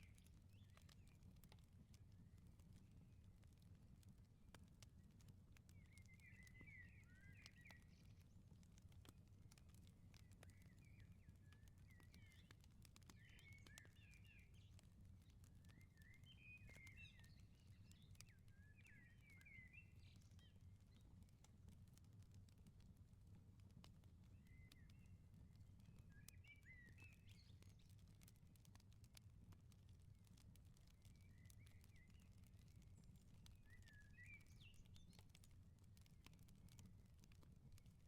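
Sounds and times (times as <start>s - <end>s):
wood fire crackling: 0.1s - 38.0s.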